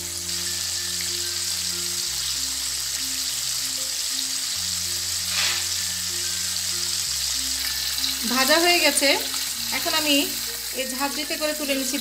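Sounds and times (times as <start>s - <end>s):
chicken sizzling in hot oil: 0.0s - 12.0s
soft background music: 0.0s - 12.0s.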